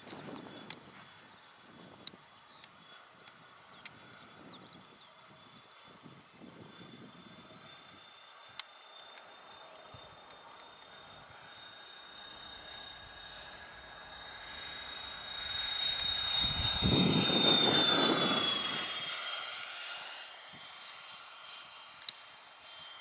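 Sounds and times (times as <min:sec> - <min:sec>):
model jet fans whining: 0:00.0 - 0:23.0.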